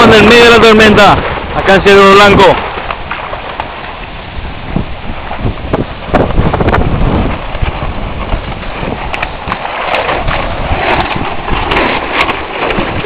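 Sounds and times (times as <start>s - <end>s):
storm wind and rain: 0.0s - 13.0s
wind buffeting microphone: 0.0s - 13.0s.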